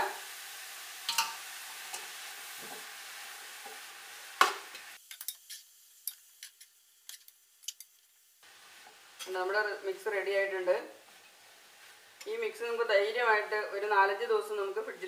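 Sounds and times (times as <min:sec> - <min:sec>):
food sizzling in a metal pot: 0:00.0 - 0:15.0.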